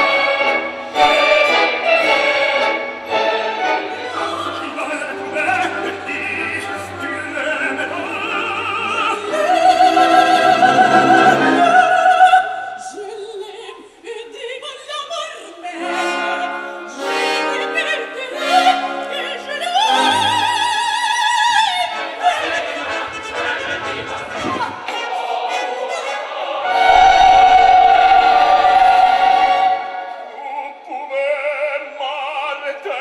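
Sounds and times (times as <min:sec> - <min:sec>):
orchestra: 0:00.0 - 0:13.1, 0:15.6 - 0:33.0
operatic singing: 0:00.0 - 0:33.0.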